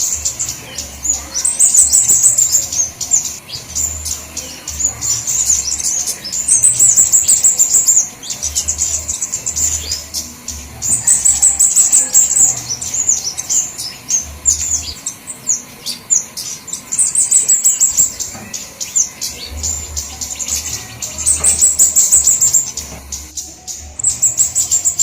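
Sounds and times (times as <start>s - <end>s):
high-pitched bird chirps: 0.0s - 25.0s.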